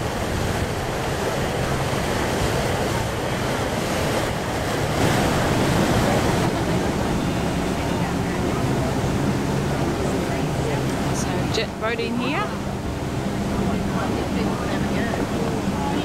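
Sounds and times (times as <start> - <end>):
water rushing along boat hull: 0.0 - 16.0
wind buffeting microphone: 0.0 - 16.0.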